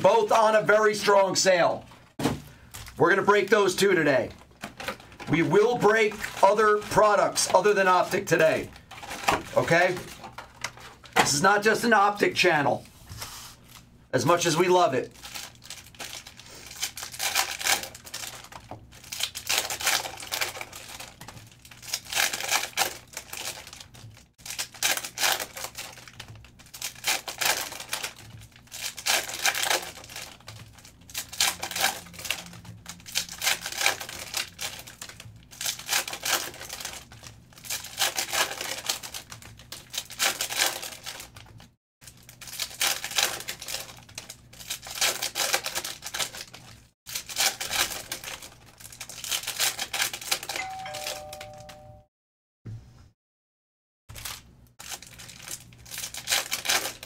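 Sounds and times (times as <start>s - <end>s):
foil wrappers tearing and crinkling: 2.5s - 11.8s, 15.0s - 50.6s, 54.1s - 57.0s.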